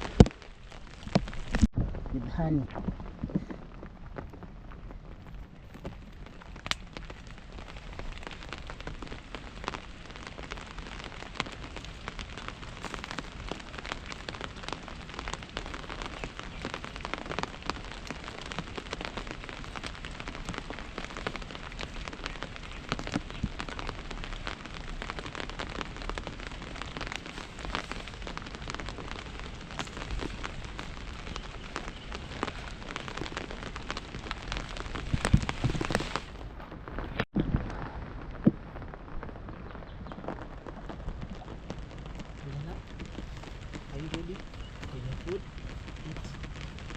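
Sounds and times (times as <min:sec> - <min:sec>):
rain on a hard surface: 0:00.0 - 0:46.9.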